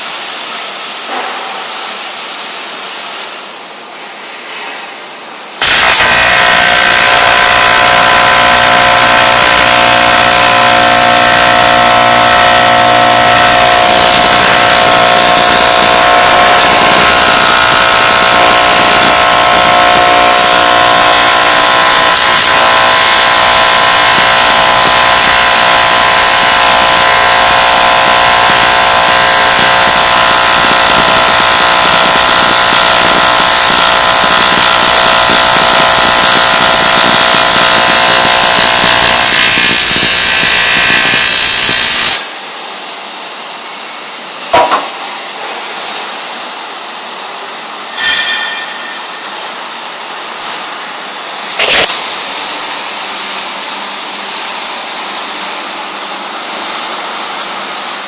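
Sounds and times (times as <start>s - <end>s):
welding arc buzz: 0.0s - 3.8s, 5.4s - 58.0s.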